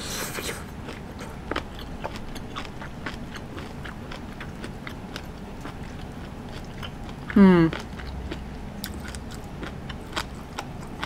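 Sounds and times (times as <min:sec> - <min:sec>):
close-up chewing food: 0:00.0 - 0:11.0.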